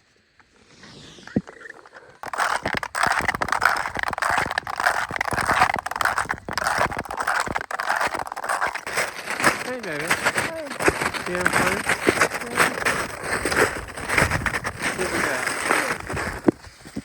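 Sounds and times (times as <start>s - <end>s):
footsteps crunching snow and ice: 1.7s - 17.0s.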